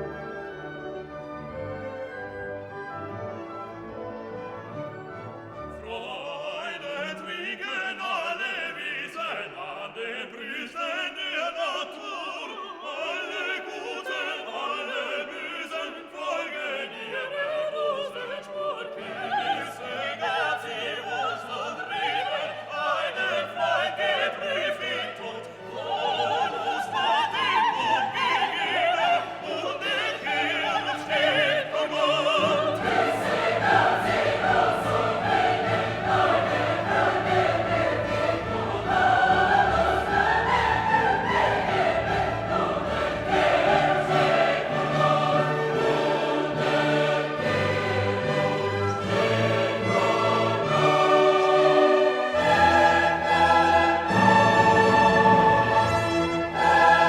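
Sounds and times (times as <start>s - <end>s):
orchestral music with choir: 0.0s - 57.0s.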